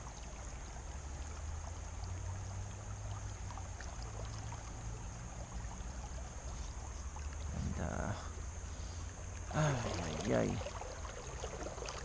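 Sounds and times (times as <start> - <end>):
creek water rushing: 0.0 - 12.0
faint water splashes: 0.0 - 12.0.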